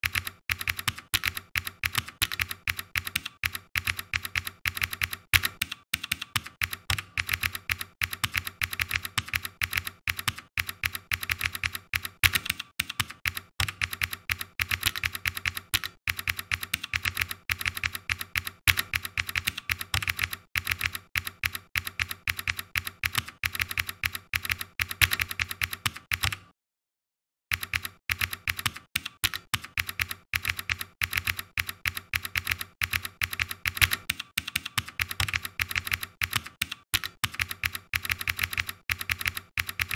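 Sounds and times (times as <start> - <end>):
typing on keyboard: 0.0 - 26.5, 27.5 - 39.9.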